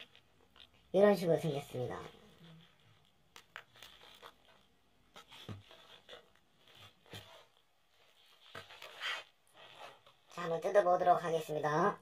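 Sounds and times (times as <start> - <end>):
soft rustling of plastic wrap: 0.0 - 12.0.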